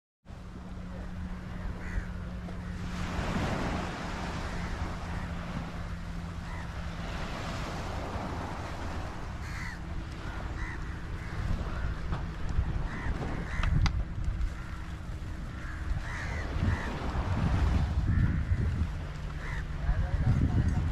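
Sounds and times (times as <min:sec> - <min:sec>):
crows cawing: 0:01.0 - 0:07.2, 0:09.4 - 0:17.4, 0:18.0 - 0:20.5.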